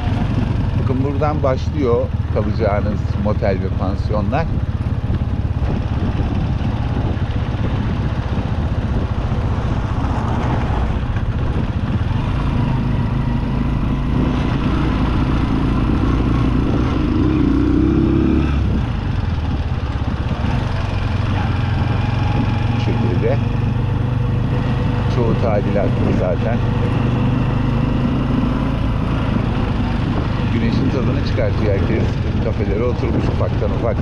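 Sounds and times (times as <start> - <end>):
small motorcycle engine: 0.0 - 34.0
tyres on gravel road: 0.0 - 34.0.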